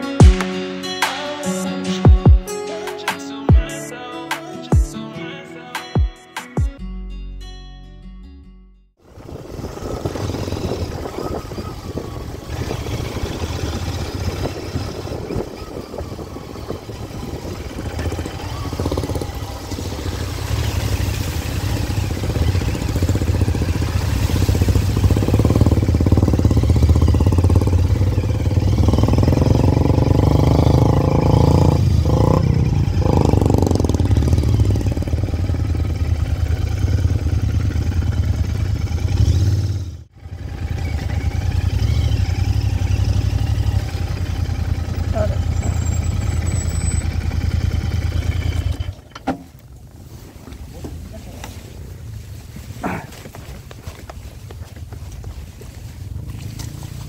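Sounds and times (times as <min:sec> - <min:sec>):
motorcycle engine running: 0:09.0 - 0:57.0.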